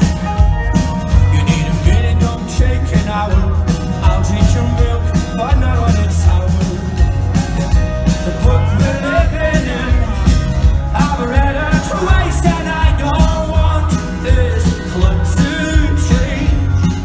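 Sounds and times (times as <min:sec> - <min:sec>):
live pop-rock band: 0:00.0 - 0:17.0
man singing into a microphone: 0:01.1 - 0:17.0.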